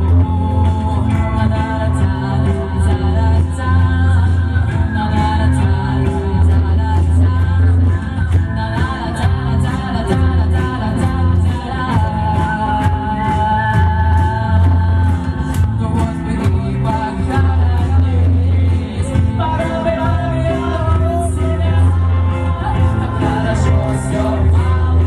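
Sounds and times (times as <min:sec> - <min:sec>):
heavy bass line: 0:00.0 - 0:25.0
live rock band playing: 0:00.0 - 0:25.0
person singing: 0:00.0 - 0:25.0.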